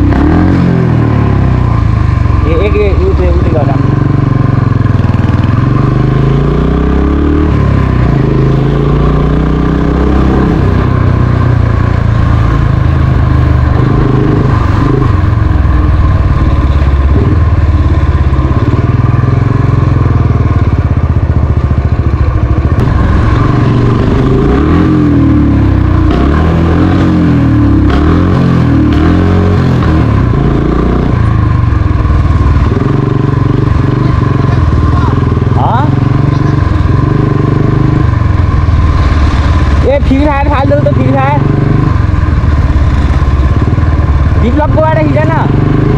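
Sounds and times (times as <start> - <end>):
motorcycle engine shifting gears: 0.0 - 45.9.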